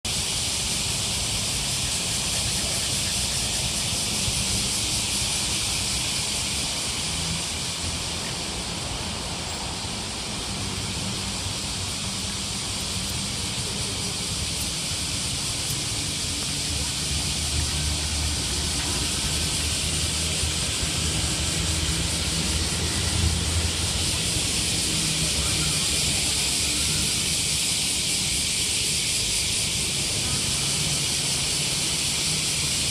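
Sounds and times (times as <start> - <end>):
high-pitched hiss: 0.1 - 32.9.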